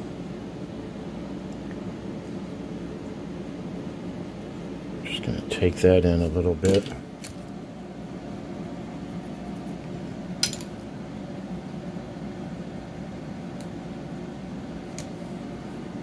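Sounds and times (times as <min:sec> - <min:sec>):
appliance humming: 0:00.0 - 0:16.0.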